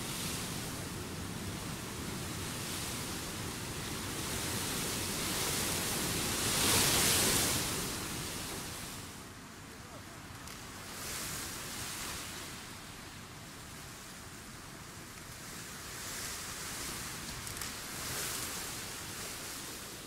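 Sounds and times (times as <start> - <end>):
wind gusting through grass: 0.0 - 20.0.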